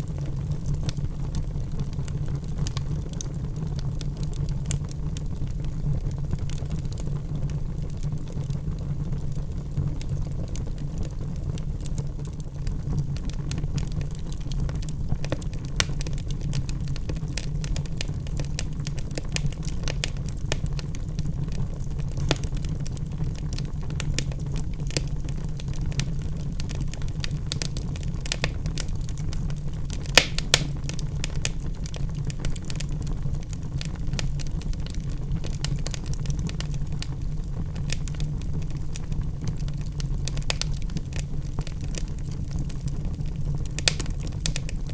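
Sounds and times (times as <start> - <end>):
fire crackling and popping: 0.0 - 44.9
low rumble of flames: 0.0 - 44.9.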